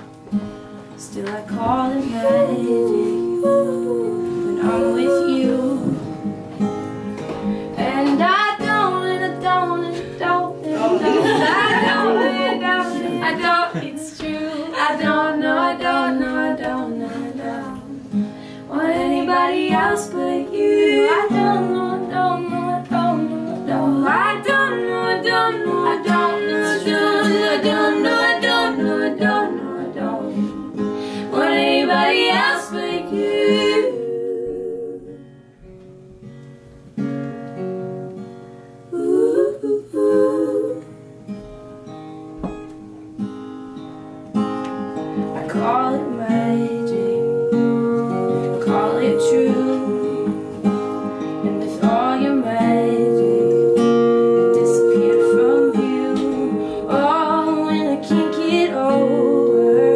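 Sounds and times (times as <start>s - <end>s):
strummed acoustic guitar: 0.0s - 33.9s, 35.1s - 39.0s, 40.9s - 59.9s
women singing together: 1.0s - 6.7s, 7.8s - 35.3s, 38.9s - 41.0s, 45.4s - 59.9s.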